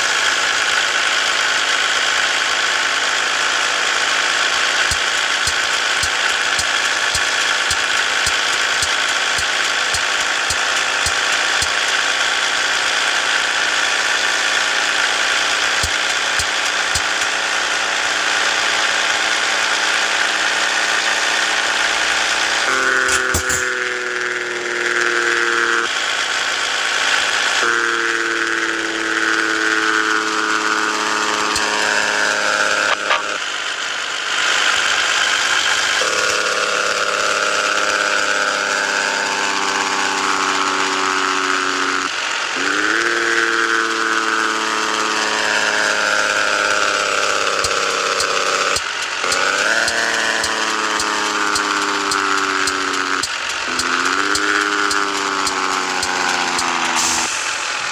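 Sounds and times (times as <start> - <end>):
truck diesel engine under load: 0.0 - 57.9.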